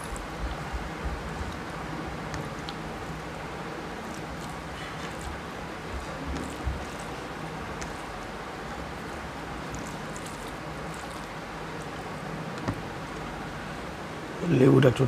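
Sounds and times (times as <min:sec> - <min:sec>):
fingers squishing food: 0:00.0 - 0:13.5
steady background hiss: 0:00.0 - 0:15.0.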